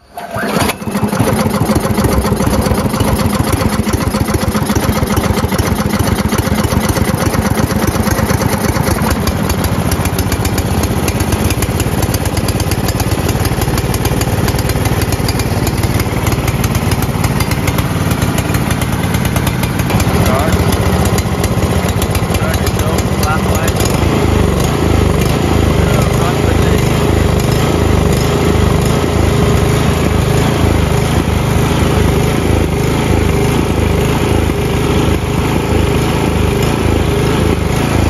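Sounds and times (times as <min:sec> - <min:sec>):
small gas engine running: 0:00.0 - 0:38.0
recoil starter cord pull: 0:00.3 - 0:31.2.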